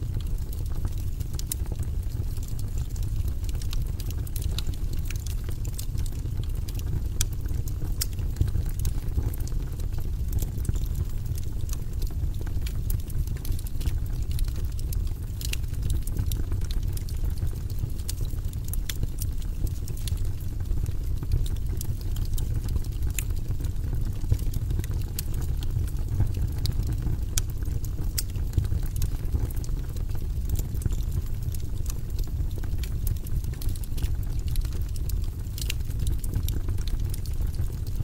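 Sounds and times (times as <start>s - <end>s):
fire low rumble: 0.0s - 38.0s
wood fire crackling and popping: 0.0s - 38.0s.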